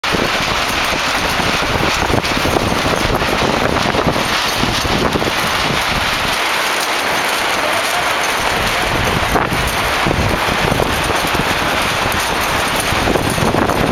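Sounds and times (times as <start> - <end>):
gusty low rumble: 0.0 - 6.4, 8.4 - 13.9
wind buffeting microphone: 0.0 - 13.9.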